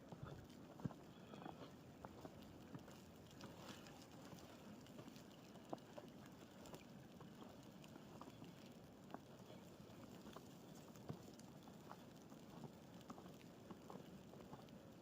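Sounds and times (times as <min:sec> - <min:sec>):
soft ticks: 0:00.2 - 0:15.0.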